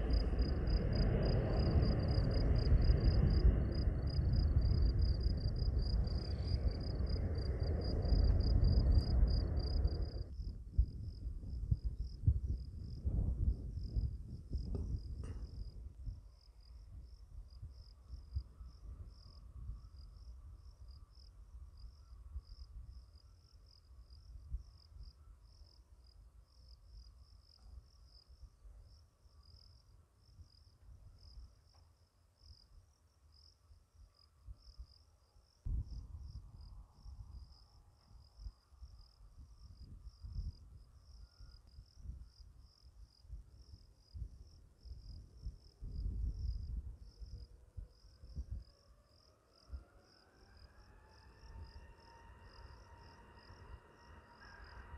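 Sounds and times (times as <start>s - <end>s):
wind rumbling on microphone: 0.0s - 31.7s, 33.4s - 54.9s
insects chirring: 0.0s - 54.9s.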